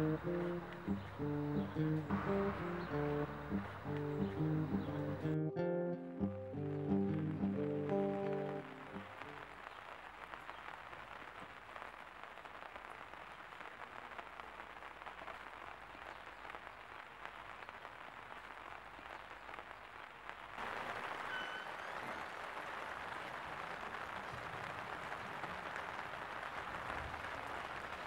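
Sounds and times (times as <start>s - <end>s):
crackly hiss with tiny clicks: 0.0s - 28.0s.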